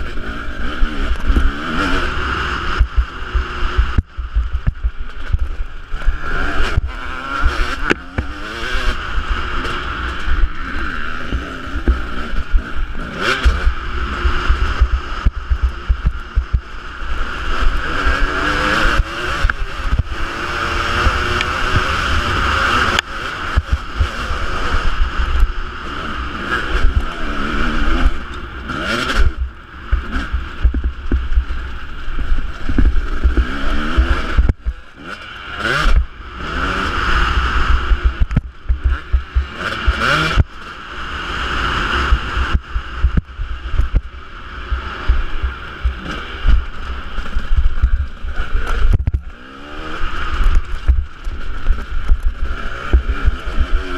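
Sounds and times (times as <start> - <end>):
low wind rumble on microphone: 0.0 - 53.9
motocross bike engine revving: 0.0 - 53.9.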